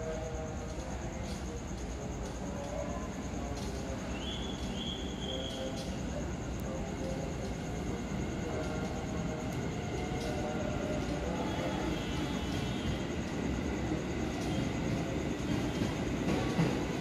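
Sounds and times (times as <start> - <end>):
train passing with rumbling wheels: 0.0 - 17.0.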